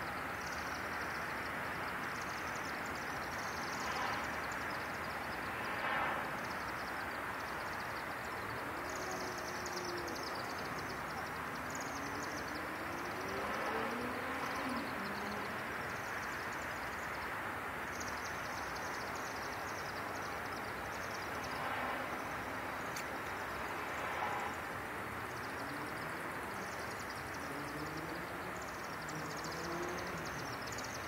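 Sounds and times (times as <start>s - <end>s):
traffic noise: 0.0s - 31.0s.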